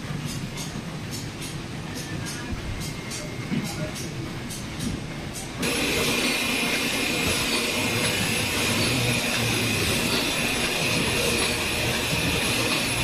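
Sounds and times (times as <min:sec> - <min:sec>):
factory machinery running: 0:00.0 - 0:13.0.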